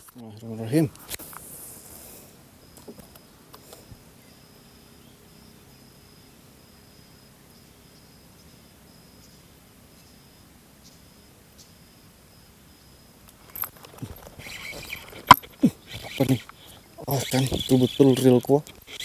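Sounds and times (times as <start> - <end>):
insect trilling: 0.0 - 19.0.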